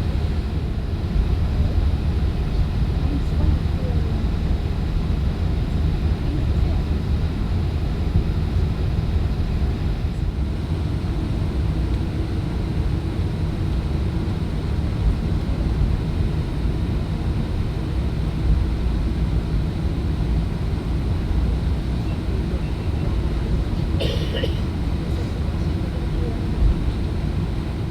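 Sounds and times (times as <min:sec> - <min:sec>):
airliner engines rumbling in cabin: 0:00.0 - 0:27.9.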